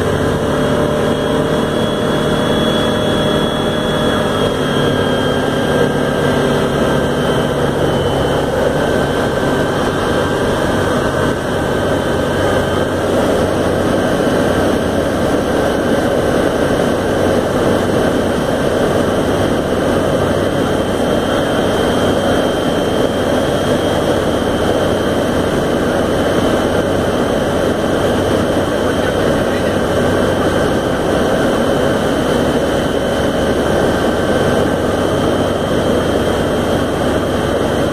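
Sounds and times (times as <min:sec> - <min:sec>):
light aircraft engine drone: 0:00.0 - 0:37.9.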